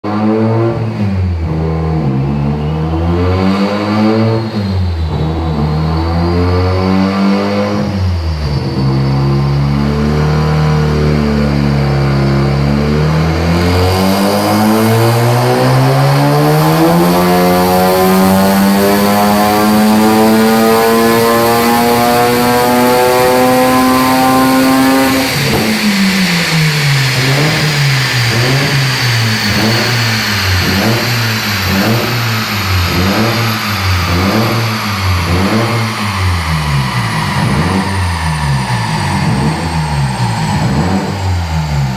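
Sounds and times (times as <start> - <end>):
rotary engine revving: 0.0 - 41.9.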